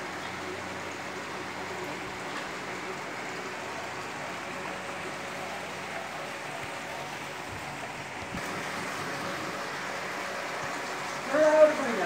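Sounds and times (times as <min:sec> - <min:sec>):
fountain water falling and splashing: 0:00.0 - 0:12.0.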